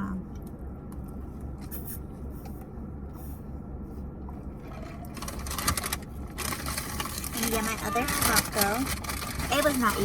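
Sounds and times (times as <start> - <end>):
low rumble inside car: 0.0 - 10.0
faint rustles and clicks: 0.3 - 10.0.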